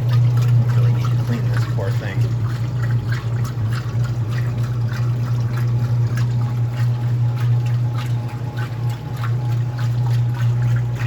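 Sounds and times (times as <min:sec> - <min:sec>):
washing machine low hum: 0:00.0 - 0:11.0
water splashing in washing machine: 0:00.0 - 0:11.0.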